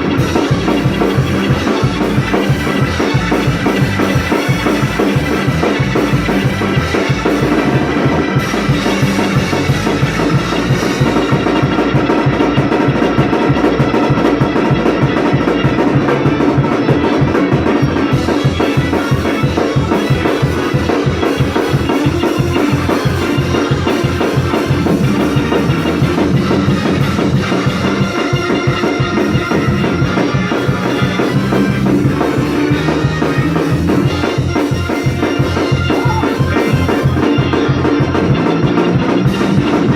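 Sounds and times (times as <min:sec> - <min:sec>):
fast drum beat: 0:00.0 - 0:39.9
sustained organ chords: 0:00.0 - 0:39.9.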